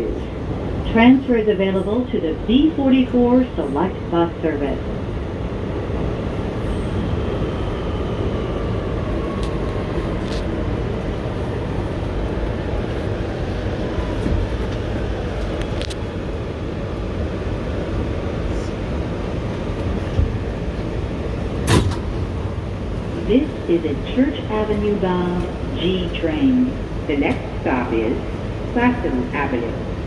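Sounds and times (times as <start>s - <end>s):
subway train rumble and hum: 0.0s - 30.0s.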